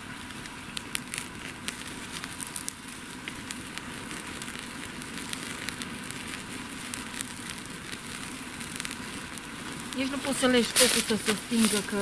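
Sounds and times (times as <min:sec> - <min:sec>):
fire popping: 0:00.0 - 0:12.0
wood fire crackling: 0:00.0 - 0:12.0.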